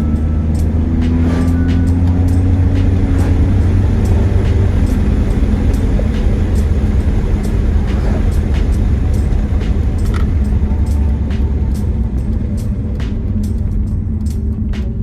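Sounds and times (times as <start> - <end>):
car engine: 0.0 - 15.0
tyre road noise: 0.0 - 15.0.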